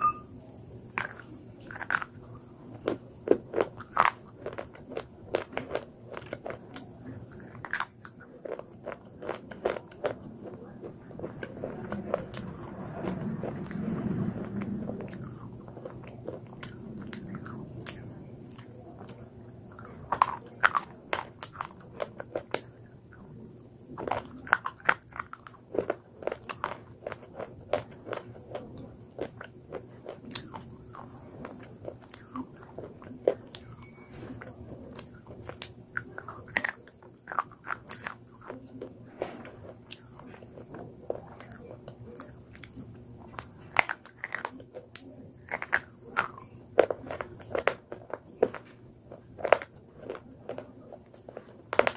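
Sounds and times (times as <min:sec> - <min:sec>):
pencils crunching between teeth: 0:00.9 - 0:22.9, 0:24.0 - 0:51.9.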